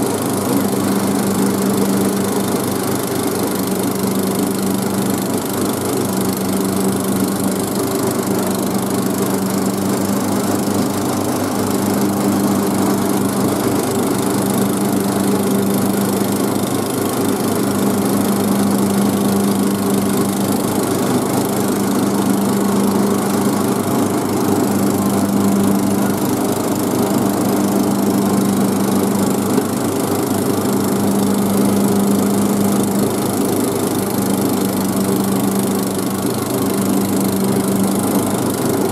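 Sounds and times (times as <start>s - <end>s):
riding mower engine droning: 0.0s - 38.9s.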